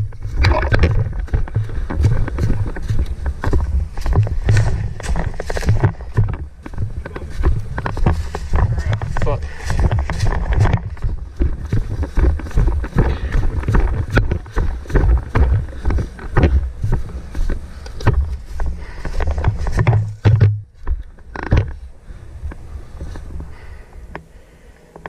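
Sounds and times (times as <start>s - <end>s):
footsteps and gear rustling: 0.0s - 25.0s.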